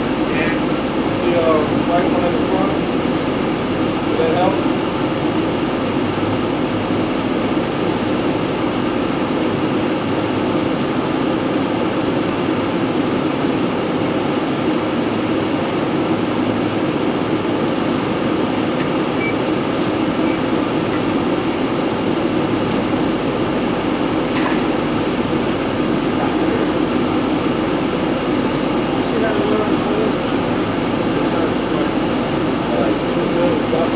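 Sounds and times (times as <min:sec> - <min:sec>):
loud rushing machinery drone: 0:00.0 - 0:33.9.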